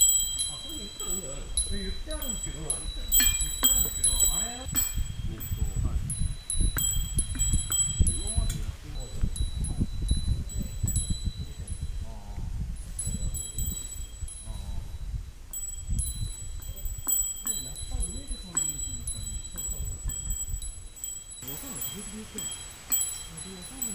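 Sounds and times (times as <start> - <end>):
small metal bell jingling: 0.0 - 12.0, 12.8 - 23.9.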